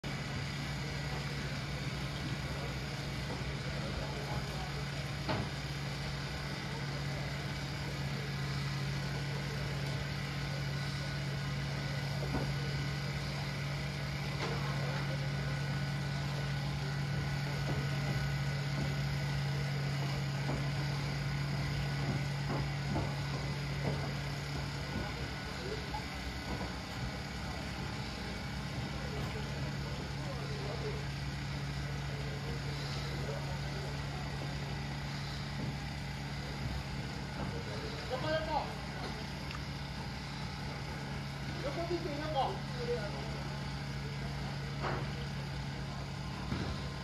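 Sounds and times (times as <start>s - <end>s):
low motor hum: 0.0s - 47.0s.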